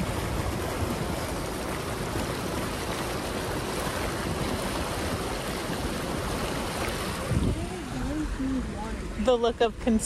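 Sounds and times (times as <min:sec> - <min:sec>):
vehicle wading through floodwater: 0:00.0 - 0:10.0.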